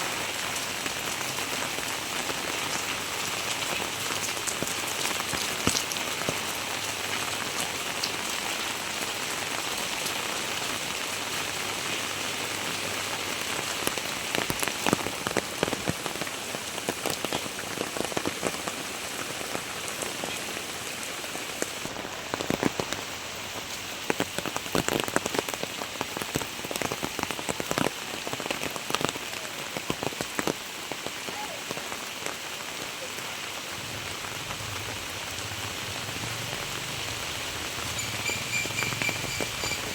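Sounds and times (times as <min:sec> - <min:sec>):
close raindrops striking: 0:00.0 - 0:39.9
heavy rain falling: 0:00.0 - 0:39.9.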